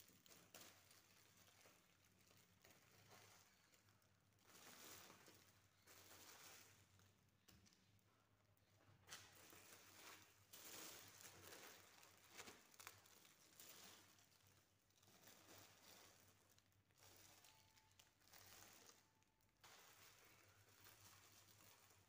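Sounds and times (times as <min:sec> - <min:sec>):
plastic film crinkling: 0:00.0 - 0:22.0.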